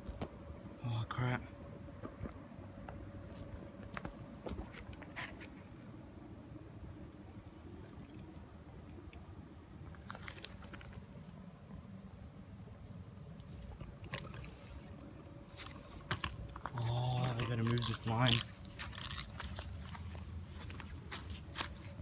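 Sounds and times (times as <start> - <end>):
high-pitched insect trill: 0.0 - 22.0
pulsing insect chirring: 0.4 - 4.5, 5.6 - 10.2, 10.8 - 22.0.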